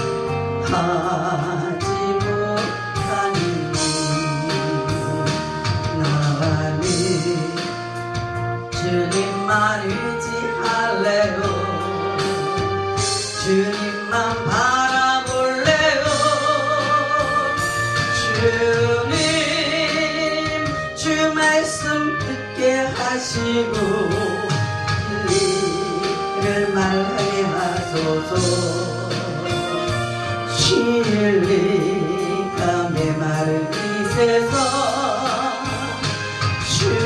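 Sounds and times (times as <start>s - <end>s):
instrumental accompaniment: 0.0s - 37.0s
woman singing into a microphone: 0.0s - 37.0s.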